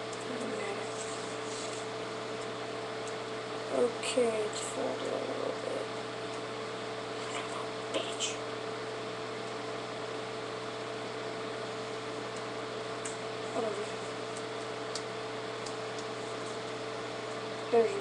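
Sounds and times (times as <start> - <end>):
hiss and low hum: 0.0 - 18.0.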